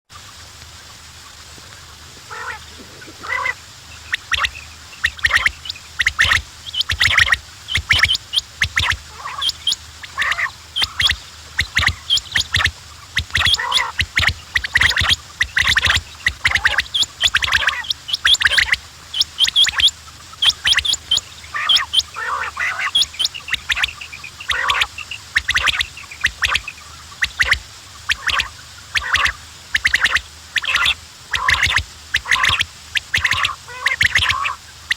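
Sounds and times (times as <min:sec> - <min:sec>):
quails calling: 0:00.1 - 0:34.9.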